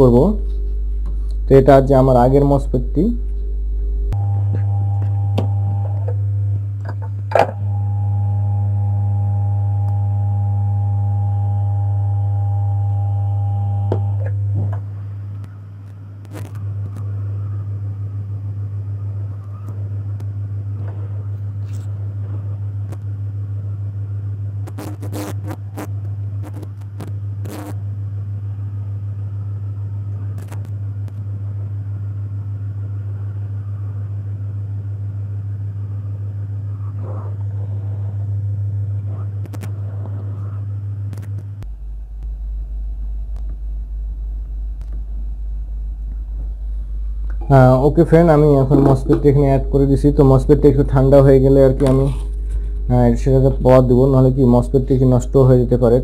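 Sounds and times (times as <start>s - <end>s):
steady tones: 0.0s - 28.5s, 35.6s - 56.0s.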